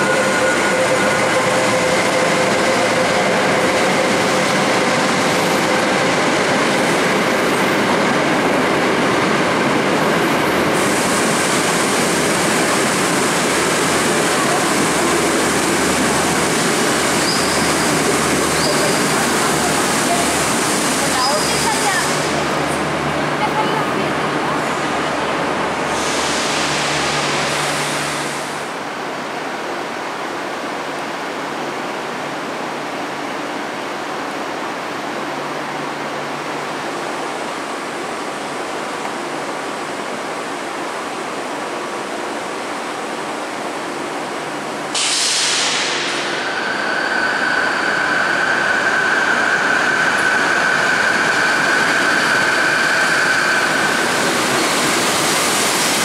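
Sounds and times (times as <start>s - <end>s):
passenger train moving: 0.0s - 56.0s
trains rumbling: 0.0s - 56.0s.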